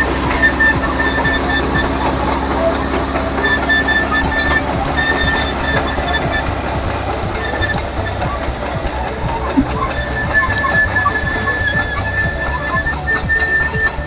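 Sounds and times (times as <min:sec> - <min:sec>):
bulldozer diesel engine churning: 0:00.0 - 0:14.0
steel tracks squealing: 0:00.0 - 0:14.0.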